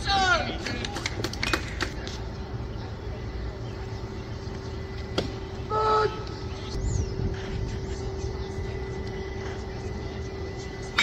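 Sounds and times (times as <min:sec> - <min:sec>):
faint hum: 0:00.0 - 0:11.0
low outdoor rumble: 0:00.0 - 0:11.0.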